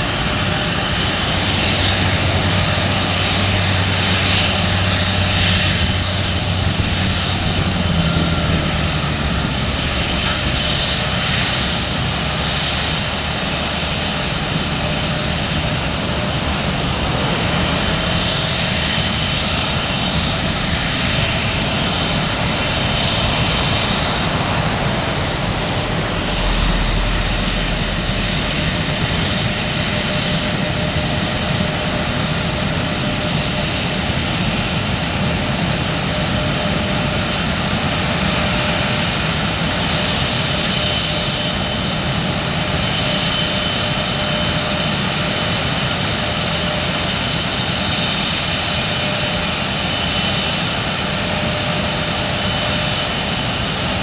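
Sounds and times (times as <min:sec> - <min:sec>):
high-pitched jet whine: 0:00.0 - 0:54.0
jet engine rumble: 0:00.0 - 0:54.0.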